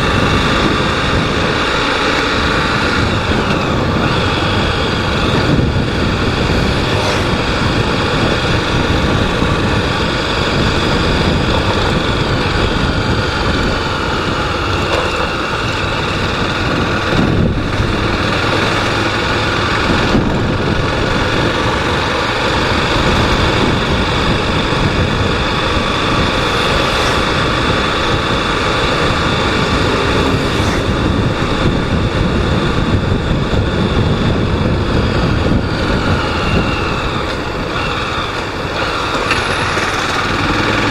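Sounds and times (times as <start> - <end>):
motorcycle engine running: 0.0 - 40.9
road and air noise: 0.0 - 40.9.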